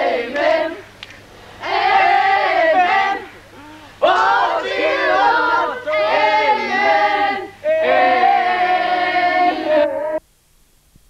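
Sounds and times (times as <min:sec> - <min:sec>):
group singing without instruments: 0:00.0 - 0:10.2.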